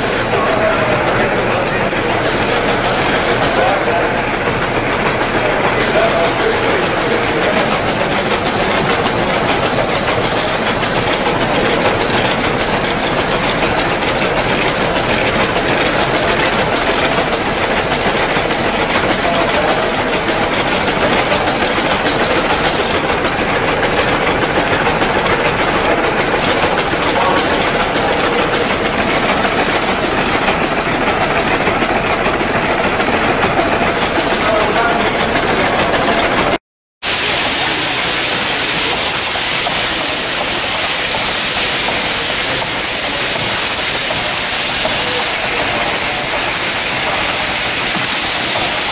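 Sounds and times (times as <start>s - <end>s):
stationary gas engine clattering: 0.0s - 48.9s.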